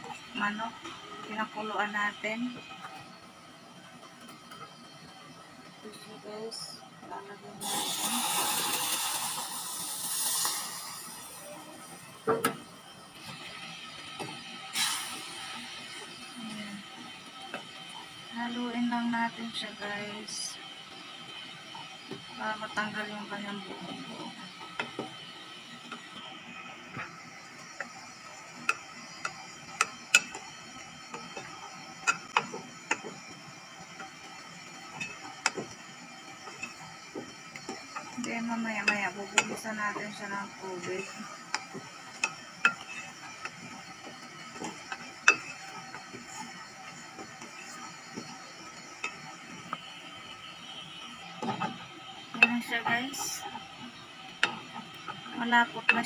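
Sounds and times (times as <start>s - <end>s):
liquid pouring into hot pan hissing: 7.6s - 18.4s, 20.0s - 56.0s.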